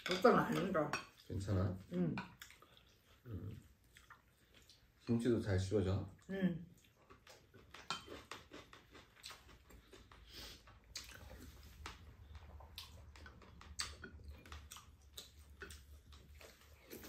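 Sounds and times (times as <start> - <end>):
chewing: 1.0 - 5.1, 6.1 - 17.0.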